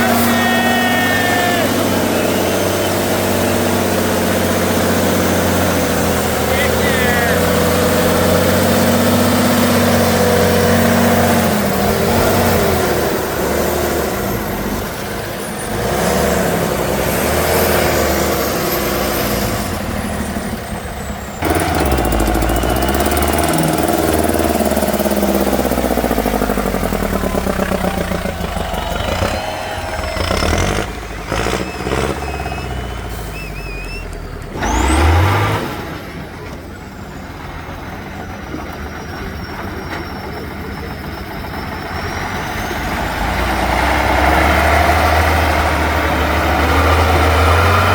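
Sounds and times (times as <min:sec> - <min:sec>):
truck engines revving: 0:00.0 - 0:47.9.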